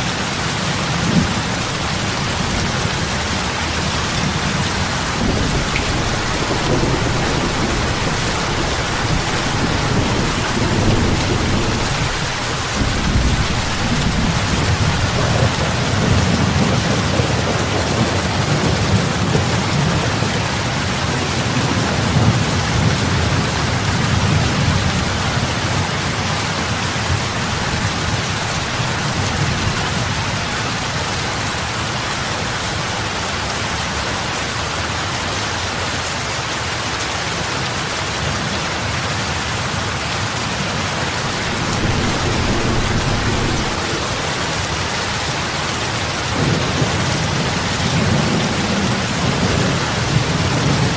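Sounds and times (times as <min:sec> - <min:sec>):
heavy rain on water: 0:00.0 - 0:50.9.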